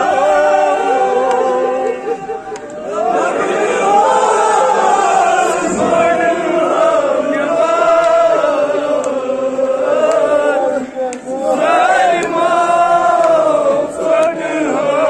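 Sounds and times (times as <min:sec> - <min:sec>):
men chanting: 0:00.0 - 0:15.0.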